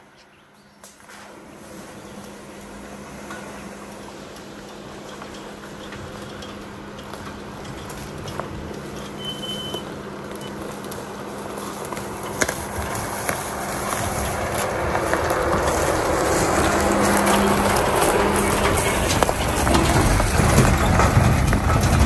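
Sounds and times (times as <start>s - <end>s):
tyres rolling over dirt: 0.9s - 22.0s
vehicle engine running: 1.4s - 22.0s.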